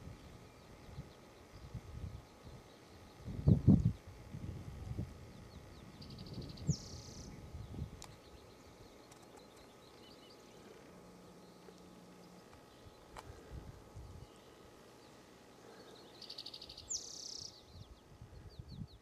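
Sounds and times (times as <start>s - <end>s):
small birds calling: 0.0s - 4.3s, 4.9s - 19.0s.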